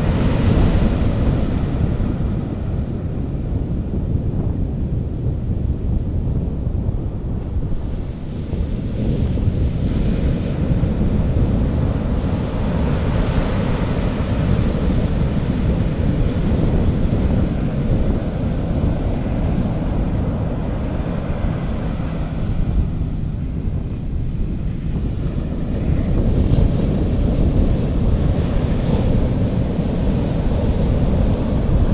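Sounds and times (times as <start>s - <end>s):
sea waves washing onto beach: 0.0s - 3.2s, 7.6s - 31.9s
wind buffeting microphone: 0.0s - 31.9s.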